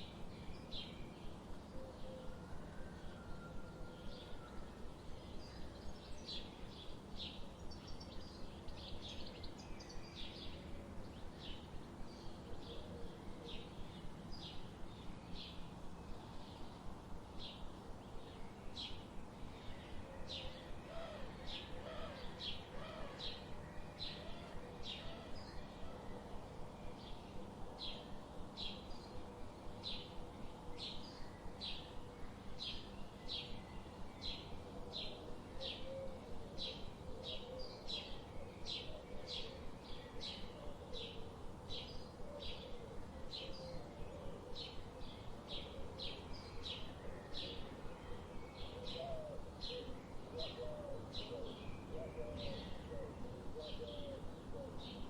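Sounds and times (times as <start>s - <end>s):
faint steady background noise: 0.0s - 55.0s.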